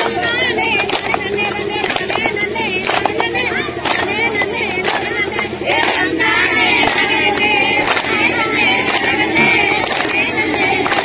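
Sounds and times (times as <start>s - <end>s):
hand claps in unison: 0.0s - 11.0s
women singing together: 0.0s - 11.0s.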